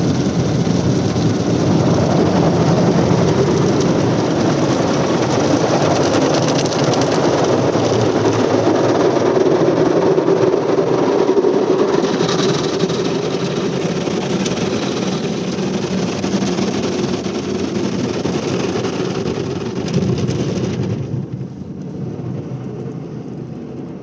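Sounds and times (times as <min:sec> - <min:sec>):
car wash water spray and brushes: 0:00.0 - 0:23.5.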